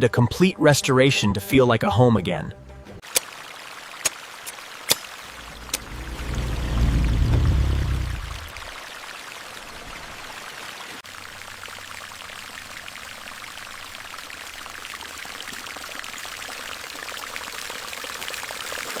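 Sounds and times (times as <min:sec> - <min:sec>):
water splashing and pouring: 0:03.0 - 0:19.0.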